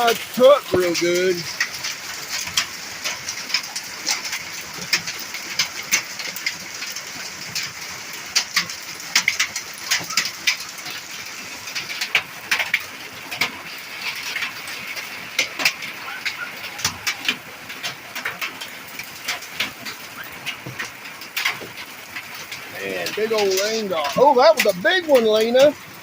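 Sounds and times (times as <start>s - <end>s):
hail striking metal: 0.0s - 26.0s
rain hissing: 0.0s - 26.0s.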